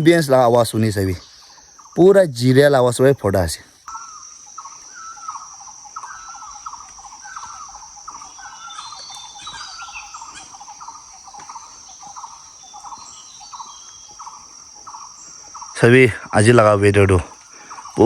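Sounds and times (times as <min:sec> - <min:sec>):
faint higher chirps: 0:00.0 - 0:18.0
high-pitched insect drone: 0:00.0 - 0:18.0
short insect chirping call: 0:00.0 - 0:18.0.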